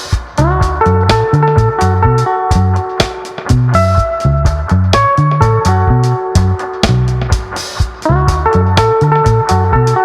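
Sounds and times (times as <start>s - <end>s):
drum hits: 0.0s - 9.6s
plucked bass notes: 0.4s - 10.0s.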